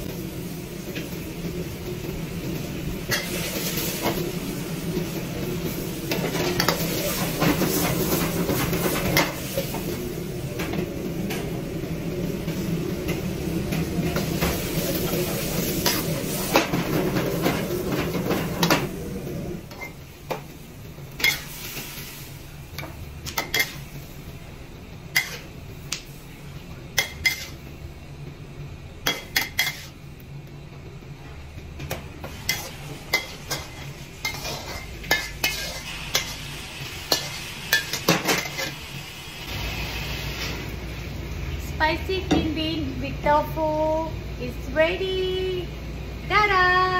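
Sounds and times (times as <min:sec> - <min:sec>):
wok burner rushing: 0:00.0 - 0:46.5
food sizzling in a wok: 0:00.0 - 0:46.9.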